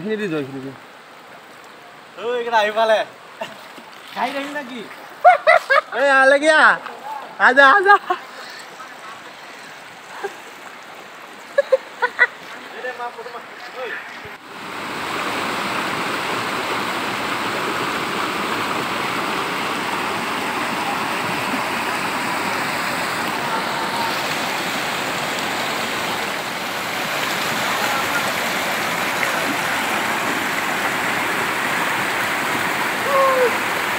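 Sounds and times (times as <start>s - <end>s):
river rapids rushing: 5.9s - 33.9s.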